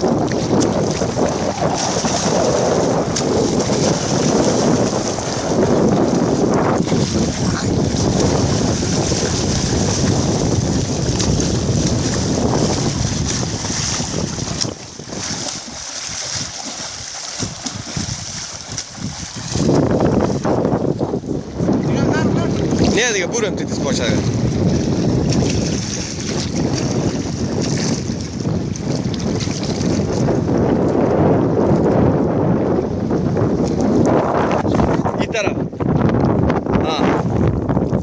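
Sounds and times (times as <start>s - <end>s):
water splashing and sloshing: 0.0s - 32.1s, 32.8s - 38.0s
wind buffeting microphone: 0.0s - 38.0s.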